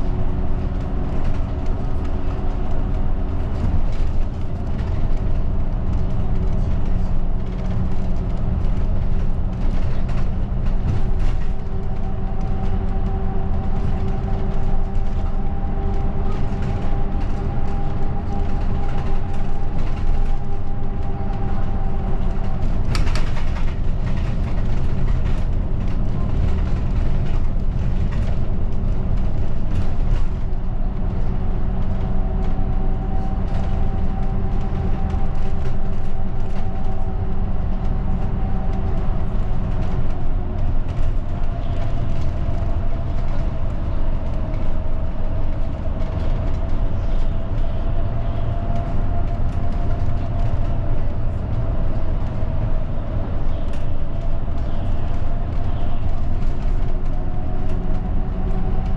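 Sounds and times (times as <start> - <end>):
bus engine hum and road rumble: 0.0 - 58.9.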